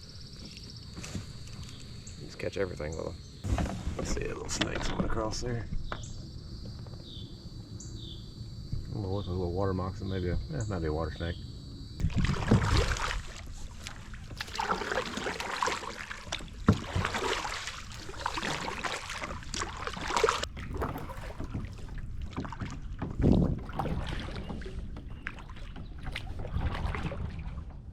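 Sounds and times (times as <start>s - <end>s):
water splashing around kayak: 0.0s - 11.4s, 12.0s - 27.9s.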